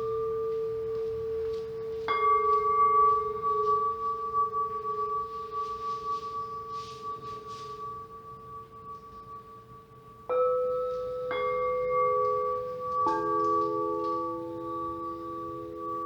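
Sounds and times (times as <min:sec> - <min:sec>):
crystal singing bowls ringing: 0:00.0 - 0:16.0
singing bowl being struck: 0:00.0 - 0:16.0.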